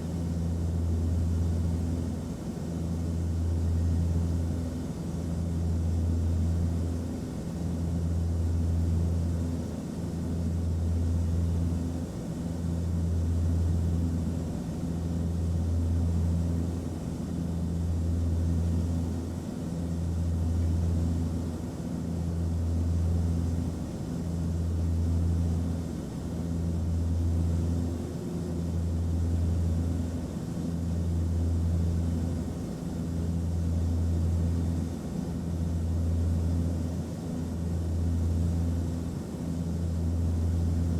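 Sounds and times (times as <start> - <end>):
airplane engine drone: 0.0 - 40.9.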